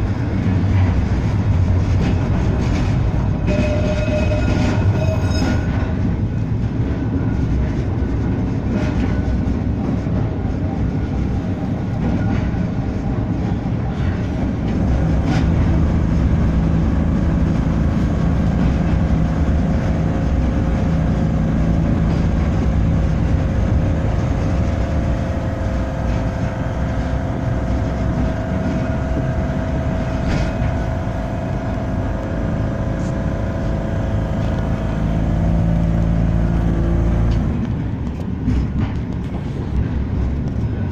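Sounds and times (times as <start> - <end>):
tram wheels rumbling: 0.0 - 40.9.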